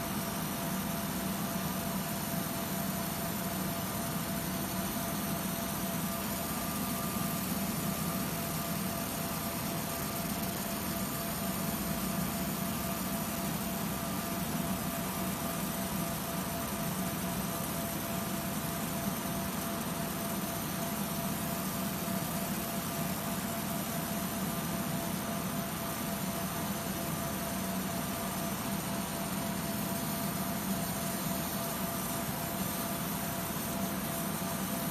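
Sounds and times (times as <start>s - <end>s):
laser marking machine running: 0.0s - 34.9s.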